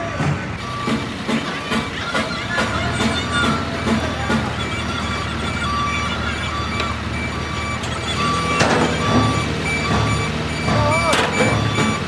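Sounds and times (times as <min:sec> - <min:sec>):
diesel engine running: 0:00.0 - 0:12.0
reversing alarm beeps: 0:00.6 - 0:12.0.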